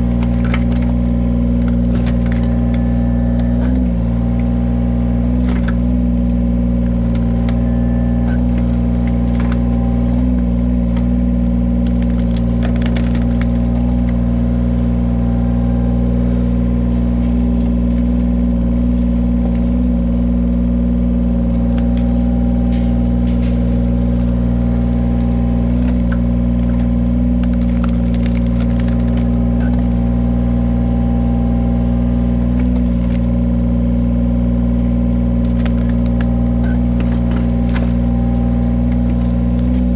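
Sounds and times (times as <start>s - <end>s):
log splitter engine running: 0.0s - 39.9s
wood crackling as logs split: 0.0s - 39.9s.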